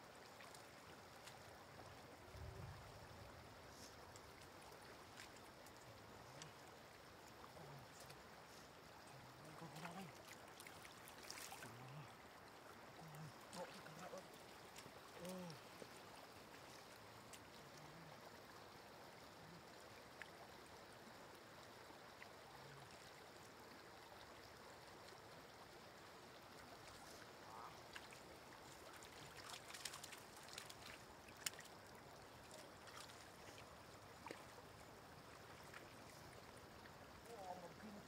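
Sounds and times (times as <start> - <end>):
trickle of running water: 0.0 - 38.0.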